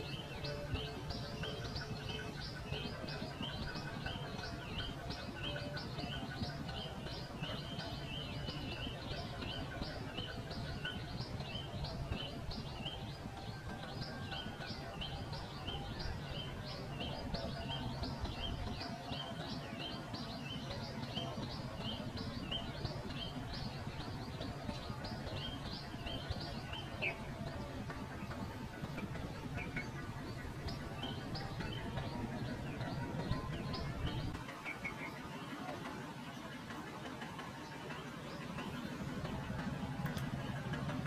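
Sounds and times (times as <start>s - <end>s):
bird chirping: 0.0s - 36.4s
low background rumble: 0.0s - 41.0s.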